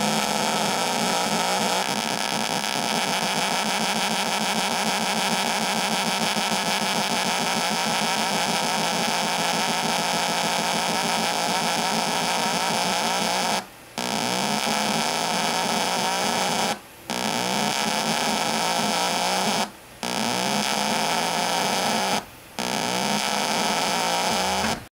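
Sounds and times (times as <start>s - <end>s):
electronic buzz: 0.0s - 24.9s.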